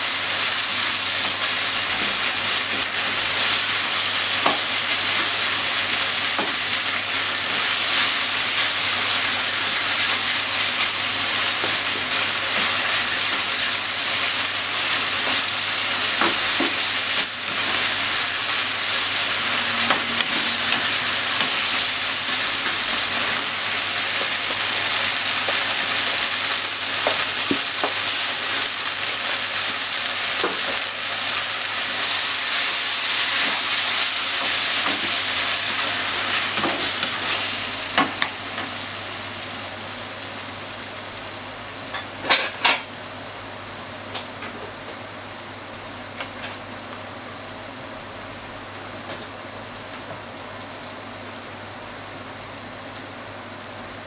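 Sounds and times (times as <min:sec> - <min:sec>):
food sizzling in frying pan: 0:00.0 - 0:54.0.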